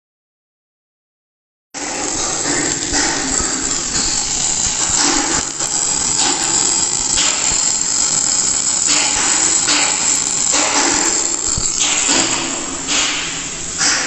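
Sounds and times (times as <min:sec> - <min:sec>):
welding arc crackling: 0:01.8 - 0:14.0.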